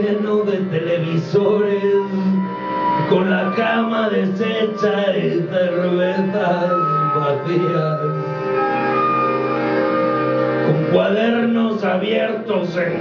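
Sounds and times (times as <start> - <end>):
live music with droning notes: 0.0 - 13.0.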